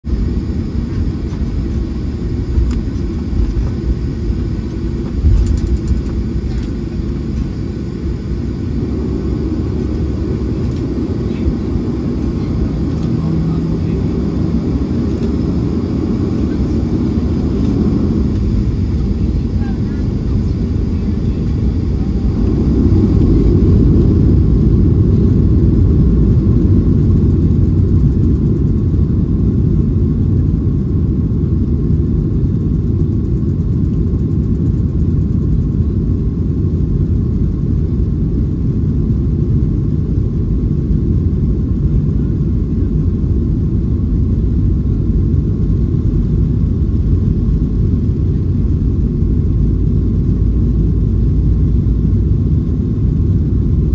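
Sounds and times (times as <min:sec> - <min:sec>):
jet engine rumble with whine: 0:00.0 - 0:53.9.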